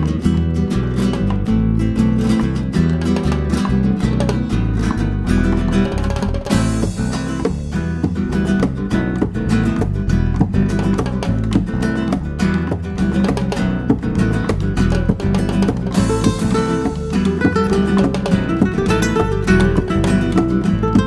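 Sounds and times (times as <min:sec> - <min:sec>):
fast flamenco acoustic guitar: 0:00.0 - 0:21.0.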